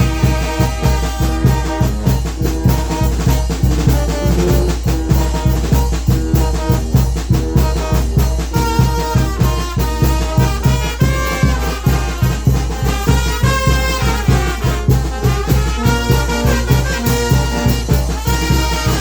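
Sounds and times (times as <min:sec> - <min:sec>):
bass drum and percussion beat: 0:00.0 - 0:19.0
trumpets and trombones melody: 0:00.0 - 0:19.0.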